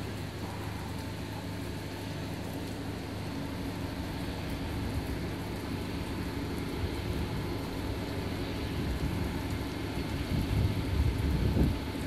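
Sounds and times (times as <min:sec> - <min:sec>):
low thunder rumble: 0:00.0 - 0:12.0
rain hiss: 0:00.0 - 0:12.0.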